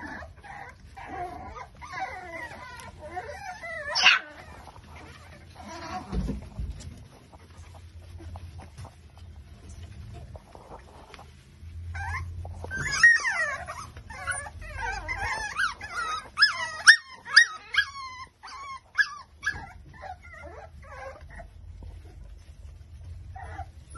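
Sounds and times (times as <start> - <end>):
puppies whining: 0.0 - 23.9
puppies yipping: 0.0 - 23.9.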